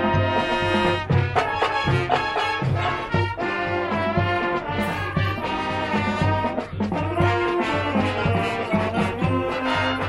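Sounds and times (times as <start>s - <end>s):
brass section holding chords: 0.0s - 10.0s
steady drum beat: 0.0s - 10.0s.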